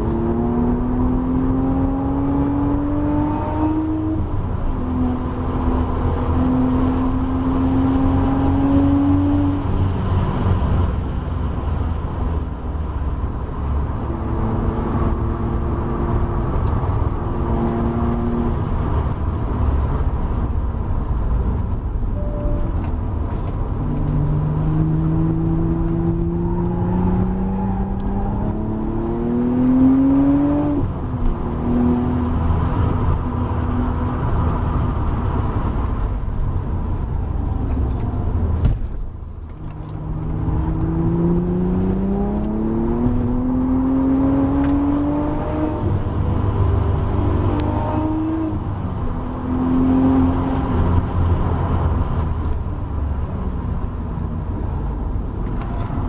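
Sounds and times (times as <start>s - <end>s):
car engine accelerating: 0.0s - 56.0s
road and wind rumble: 0.0s - 56.0s.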